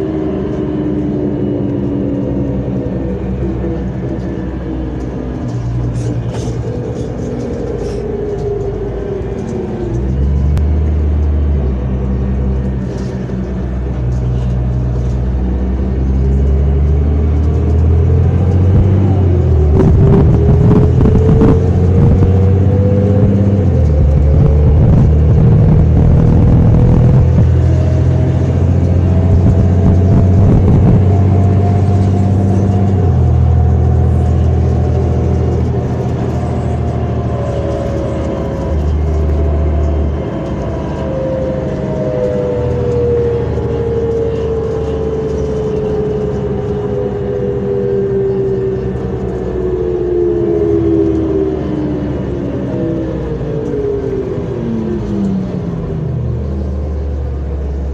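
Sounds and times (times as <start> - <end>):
bus engine drone and whine: 0.0 - 57.9.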